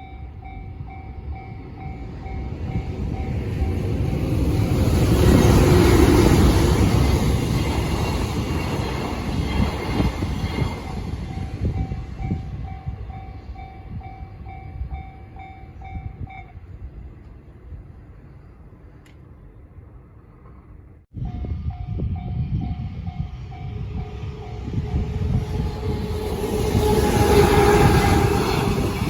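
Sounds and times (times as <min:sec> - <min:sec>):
freight train rumble: 0:00.0 - 0:29.0.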